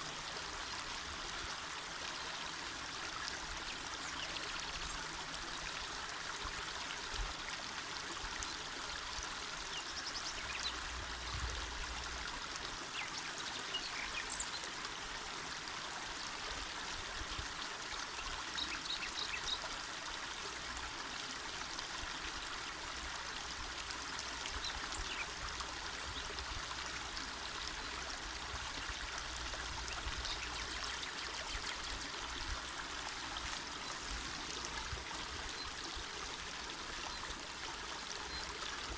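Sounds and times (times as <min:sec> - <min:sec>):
river water rushing and babbling: 0:00.0 - 0:38.9.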